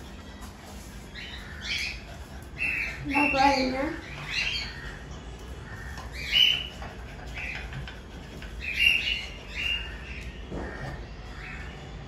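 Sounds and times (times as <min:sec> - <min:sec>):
birds chirping squawks: 0:01.0 - 0:12.0.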